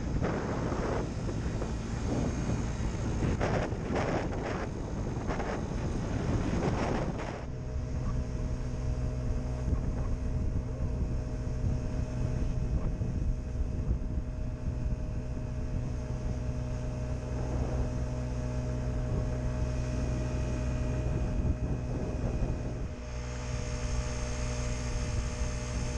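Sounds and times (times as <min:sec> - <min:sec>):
scooter engine droning: 0:00.0 - 0:25.9.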